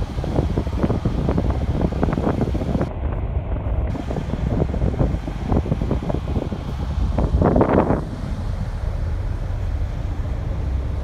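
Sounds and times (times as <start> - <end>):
low ship engine rumble: 0.0 - 11.0
wind buffeting microphone: 0.0 - 11.0.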